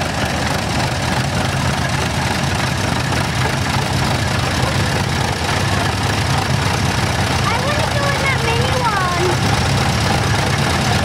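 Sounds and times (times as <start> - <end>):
tractor engines running: 0.0 - 11.0.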